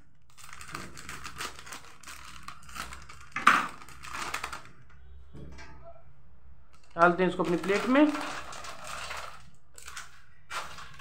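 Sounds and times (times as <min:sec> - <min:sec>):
plastic packet crinkling: 0:00.0 - 0:04.9, 0:06.7 - 0:11.0.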